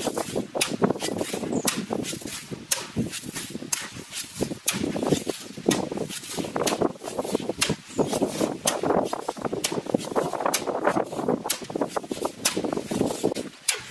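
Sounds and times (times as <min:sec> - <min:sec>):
hoe chopping into gravelly sand: 0:00.0 - 0:13.9.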